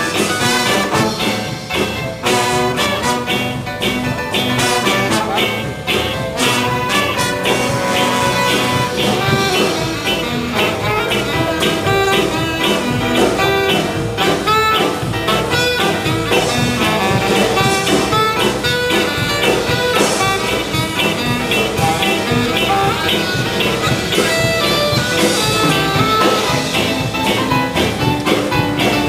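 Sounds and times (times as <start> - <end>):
loud jazz music: 0.0 - 29.0.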